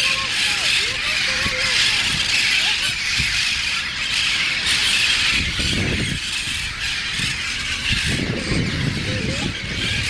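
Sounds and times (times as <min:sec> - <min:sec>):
parrots screeching and squawking: 0:00.0 - 0:10.0.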